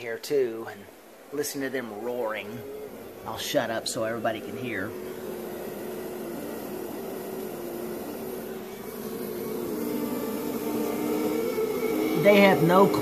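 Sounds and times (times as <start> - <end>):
bees humming inside hive: 0.0 - 13.0.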